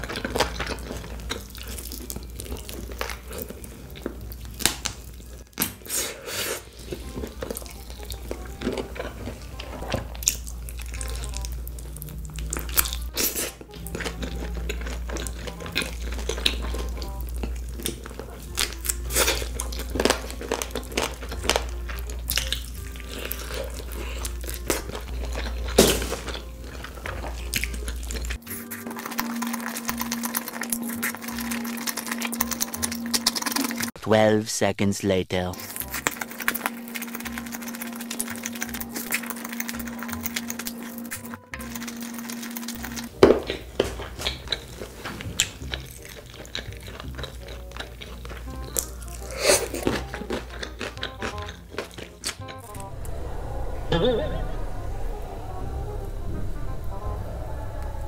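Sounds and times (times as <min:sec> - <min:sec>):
crunchy chewing: 0:00.0 - 0:34.0, 0:35.6 - 0:53.2
soft background music: 0:00.0 - 0:34.0, 0:35.3 - 0:58.0.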